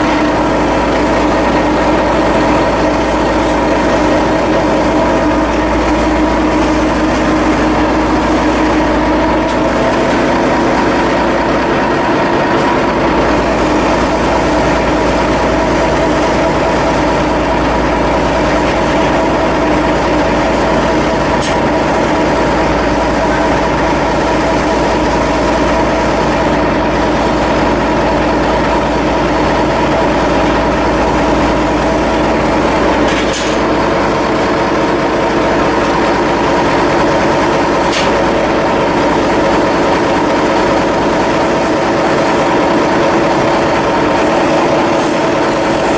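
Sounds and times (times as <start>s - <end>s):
ship diesel engine humming: 0.0s - 45.9s.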